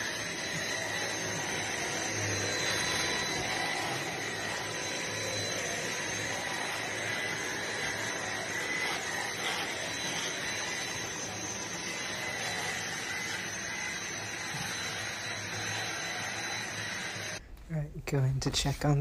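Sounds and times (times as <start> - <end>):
vacuum cleaner running: 0.0 - 17.5.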